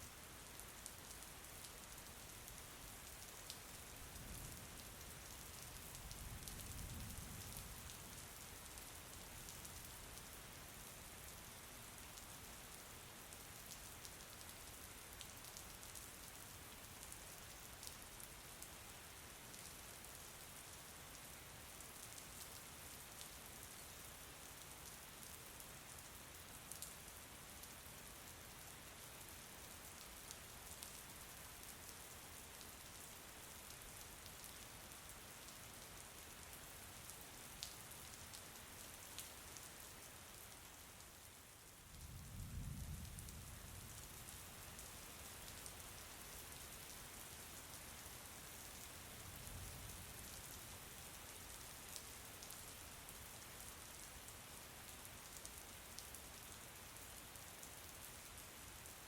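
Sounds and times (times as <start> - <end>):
faint steady rain: 0.0 - 59.0.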